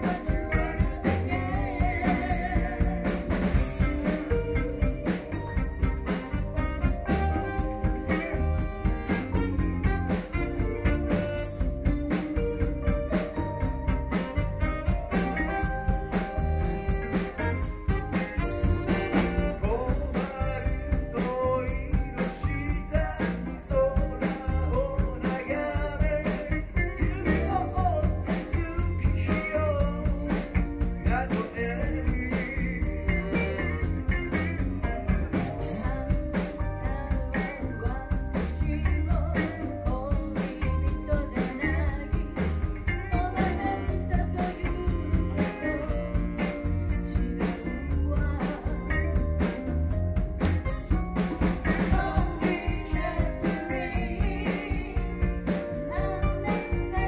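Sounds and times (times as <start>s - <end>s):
rock song with vocals: 0.0s - 57.0s.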